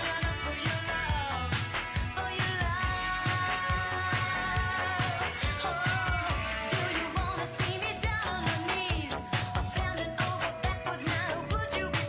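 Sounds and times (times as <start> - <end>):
pop dance music: 0.0 - 12.0.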